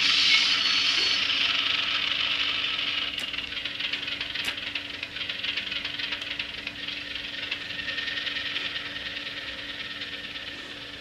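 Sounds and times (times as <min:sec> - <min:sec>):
model train diesel engine idling: 0:00.2 - 0:11.0.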